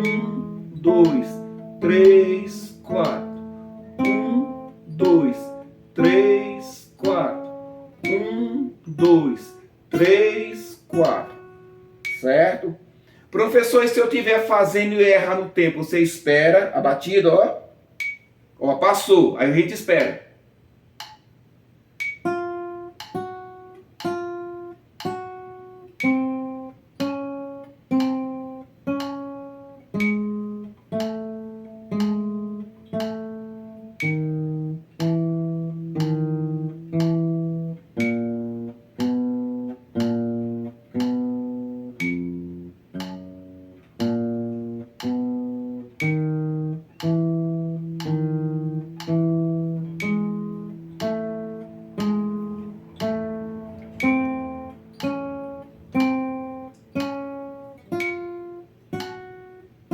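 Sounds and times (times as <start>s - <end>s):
metronome clicking: 0.0s - 12.7s, 18.0s - 18.4s, 21.0s - 21.3s, 22.0s - 59.6s
acoustic guitar plucked notes: 0.0s - 20.2s, 20.9s - 59.9s.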